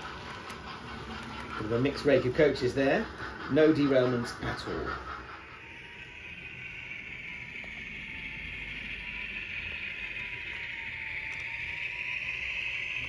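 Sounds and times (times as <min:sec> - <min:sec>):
model locomotive whine and hiss: 0:00.0 - 0:13.0.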